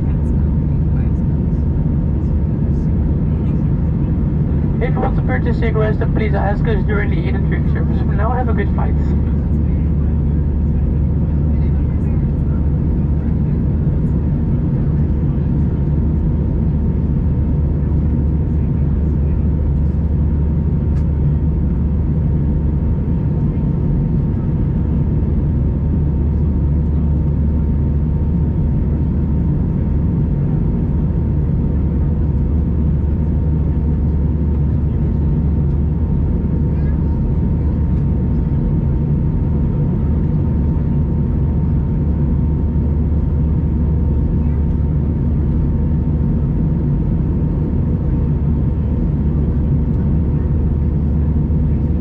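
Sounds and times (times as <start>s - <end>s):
aircraft cabin rumble: 0.0s - 52.0s
faint steady whine: 0.0s - 52.0s.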